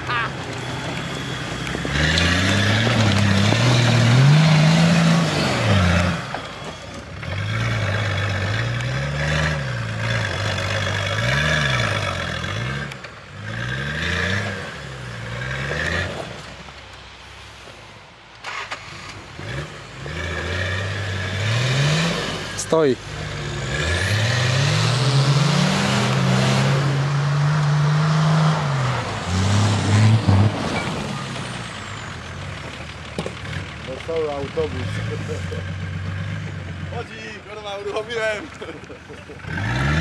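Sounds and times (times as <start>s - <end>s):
engine revving up and down: 0.0s - 16.4s, 18.5s - 32.1s, 33.4s - 37.1s, 39.3s - 40.0s.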